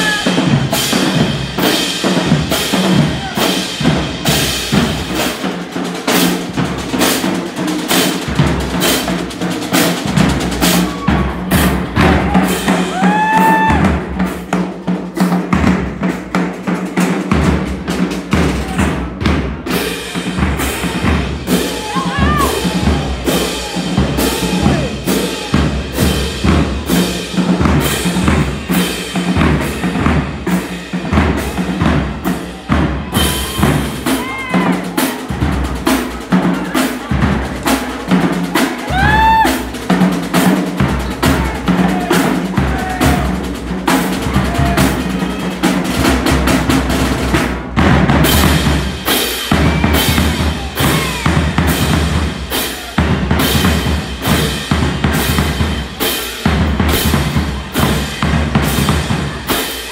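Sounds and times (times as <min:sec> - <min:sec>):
bass drums: 0:00.0 - 0:59.9
snare drums: 0:00.0 - 0:59.9.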